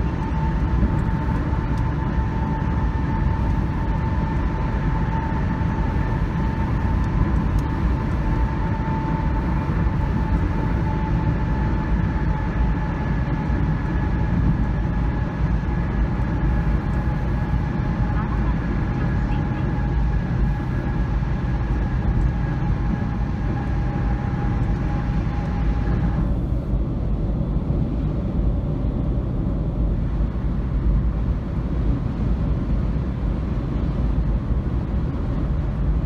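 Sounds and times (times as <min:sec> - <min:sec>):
faint steady whine: 0:00.0 - 0:36.0
road vehicle rumble: 0:00.0 - 0:36.0.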